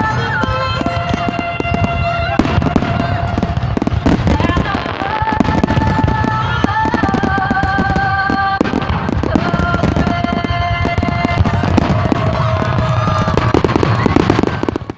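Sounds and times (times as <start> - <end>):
fireworks crackling and popping: 0.0 - 14.9
music with long held notes: 0.0 - 14.9.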